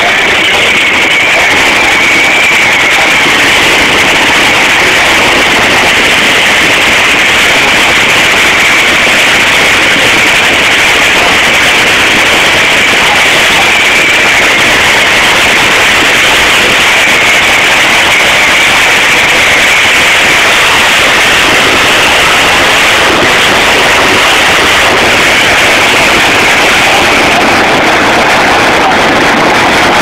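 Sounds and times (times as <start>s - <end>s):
distorted dragster engine din: 0.0s - 30.0s.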